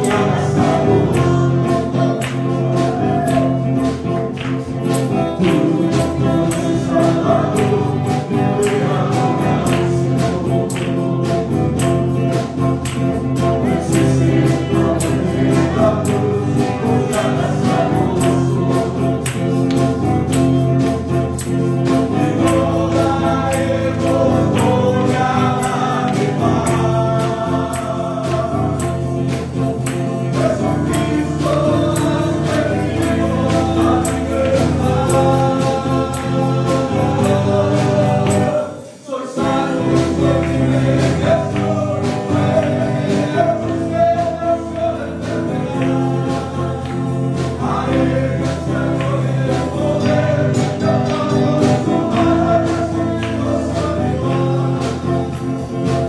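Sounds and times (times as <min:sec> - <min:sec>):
man singing into a microphone: 0:00.0 - 0:03.6, 0:04.9 - 0:11.6, 0:13.2 - 0:19.2, 0:22.1 - 0:29.5, 0:30.1 - 0:55.6
backing music with steady beat: 0:00.0 - 0:56.0.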